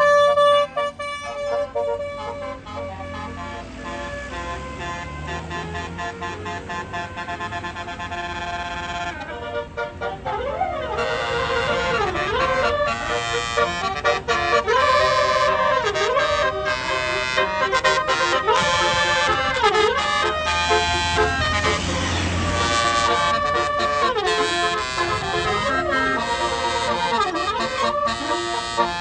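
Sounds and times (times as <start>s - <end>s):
bus horn playing a musical tune: 0.0s - 29.0s
low engine rumble: 0.0s - 29.0s.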